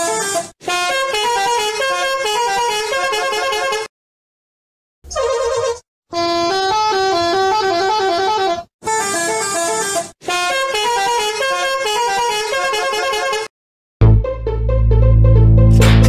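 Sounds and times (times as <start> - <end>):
bus musical horn tune: 0.0 - 3.9, 6.2 - 15.4.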